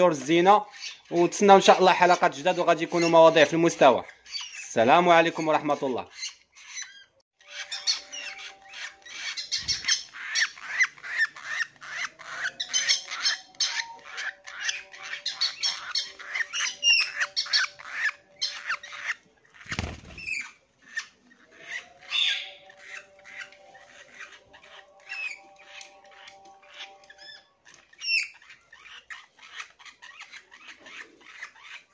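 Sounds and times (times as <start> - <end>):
birds chirping rapidly: 0.0 - 31.9.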